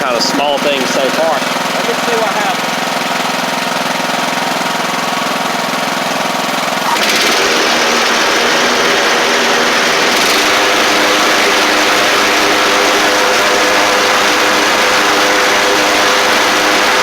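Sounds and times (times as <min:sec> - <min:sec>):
lawn tractor engine running: 0:00.0 - 0:17.0.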